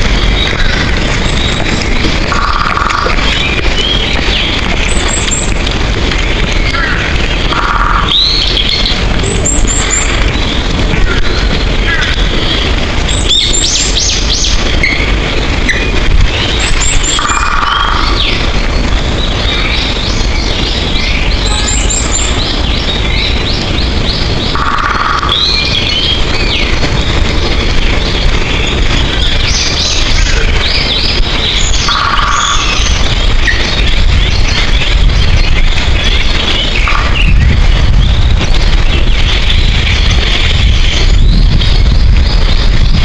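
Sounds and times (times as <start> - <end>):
songbirds chirping and singing: 0.0 - 43.0
steady low rumble: 0.0 - 43.0.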